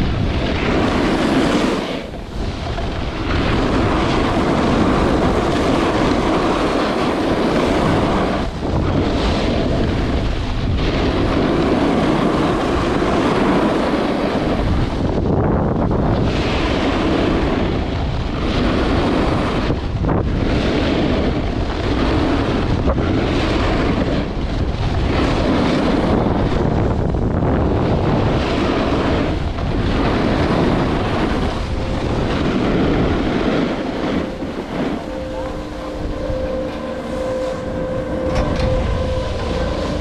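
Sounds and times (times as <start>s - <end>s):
snowboard carving over snow: 0.0s - 40.0s
wind buffeting microphone: 0.0s - 40.0s.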